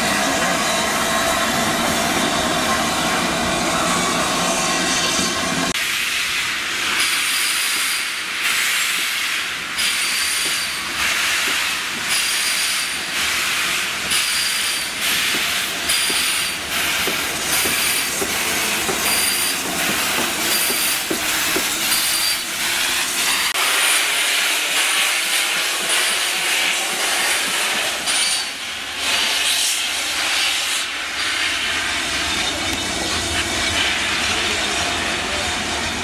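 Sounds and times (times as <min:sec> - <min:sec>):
steam locomotive hissing: 0:00.0 - 0:36.0.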